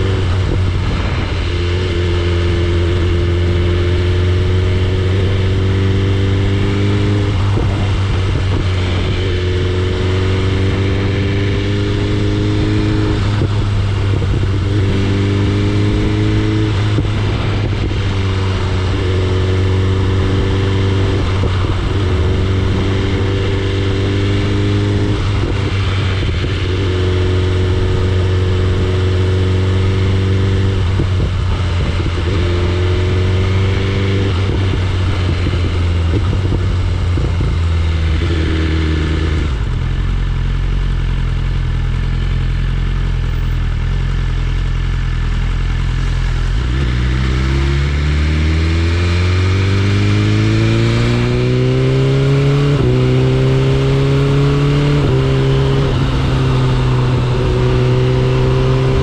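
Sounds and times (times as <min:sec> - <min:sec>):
wind noise: 0:00.0 - 0:39.8, 0:45.8 - 0:59.0
motorcycle engine accelerating: 0:00.0 - 0:59.0.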